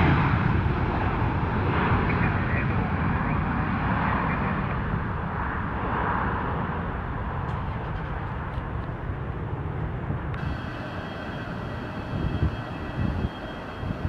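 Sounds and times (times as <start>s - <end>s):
airliner engine rumble: 0.0s - 14.0s.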